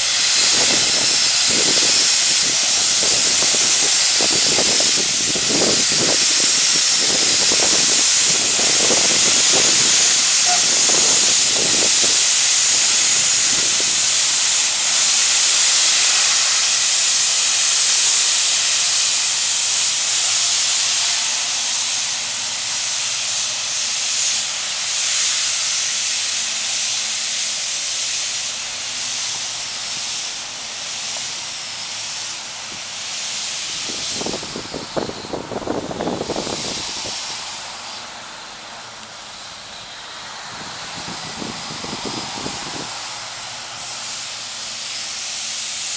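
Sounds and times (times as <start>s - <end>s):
steam locomotive hissing: 0.0s - 45.9s.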